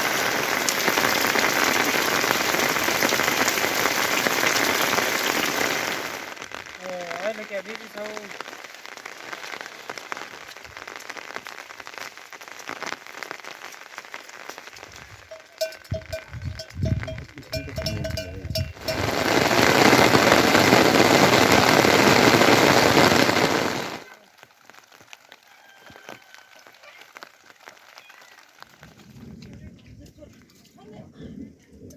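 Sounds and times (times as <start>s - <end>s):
heavy rain pouring: 0.0s - 31.5s
rain pattering: 0.0s - 31.9s.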